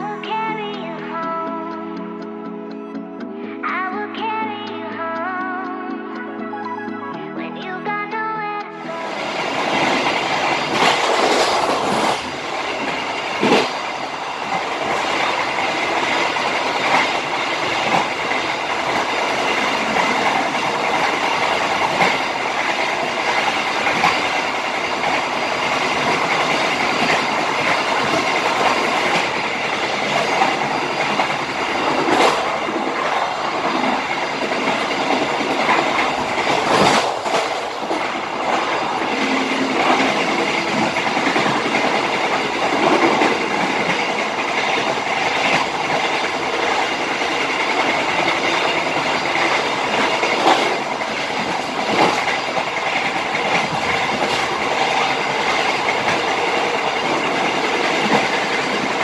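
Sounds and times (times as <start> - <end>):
wheels clacking over rail joints: 9.0 - 59.0.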